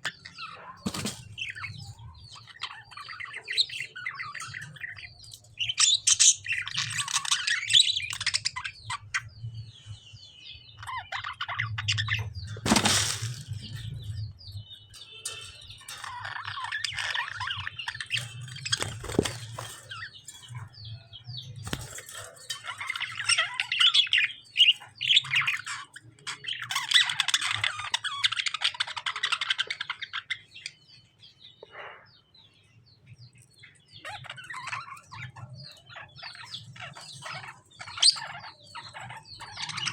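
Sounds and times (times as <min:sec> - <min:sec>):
budgies and lovebirds chirping: 0:00.0 - 0:39.9.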